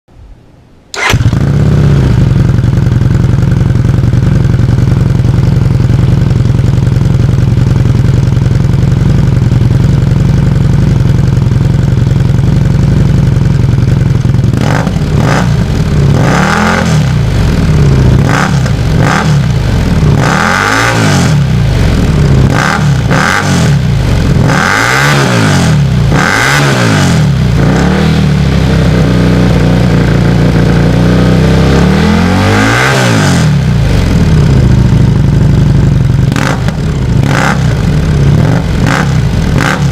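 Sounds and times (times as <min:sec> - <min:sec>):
motorcycle engine idling and revving: 0:01.0 - 0:39.9.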